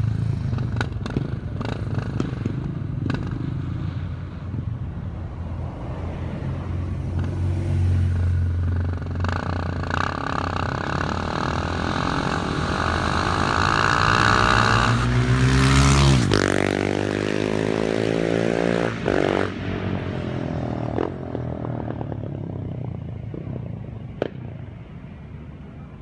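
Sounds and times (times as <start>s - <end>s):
motorcycle engine accelerating: 0.0s - 4.8s, 6.8s - 24.7s.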